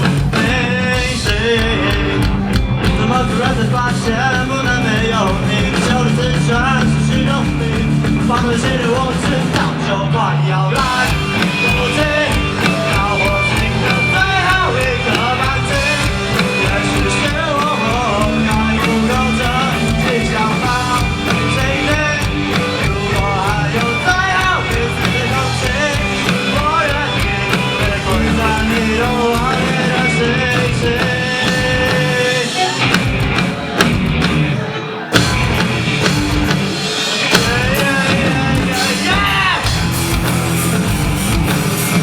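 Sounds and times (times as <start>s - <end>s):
rock song: 0.0s - 42.0s.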